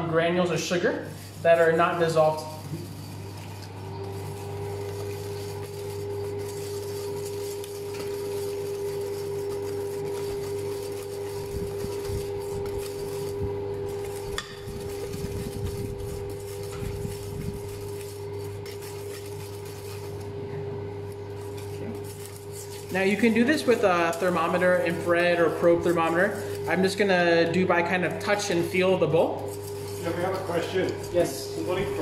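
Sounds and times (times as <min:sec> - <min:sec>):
steady hum: 0:00.0 - 0:32.0
whisk scraping metal bowl: 0:00.0 - 0:32.0.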